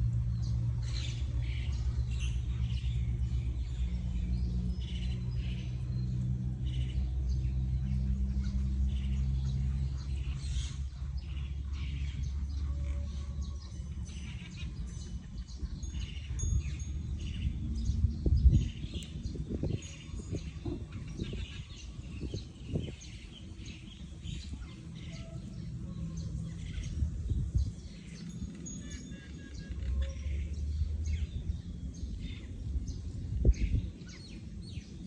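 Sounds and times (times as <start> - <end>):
birds chirping: 0.0 - 35.0
low rumble: 0.0 - 35.0.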